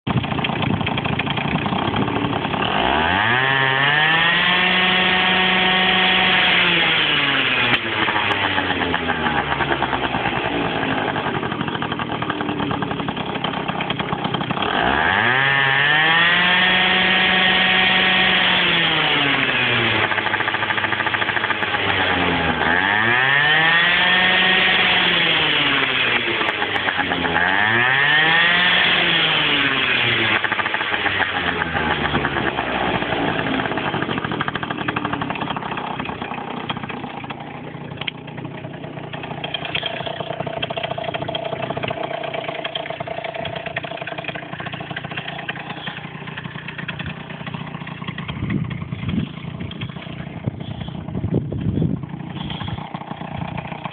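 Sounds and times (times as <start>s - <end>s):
scooter engine revving: 0.1s - 53.9s.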